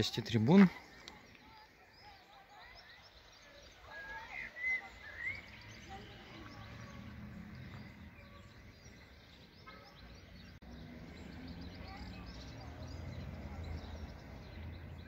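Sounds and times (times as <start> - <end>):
birds singing and chirping: 0.0 - 15.0.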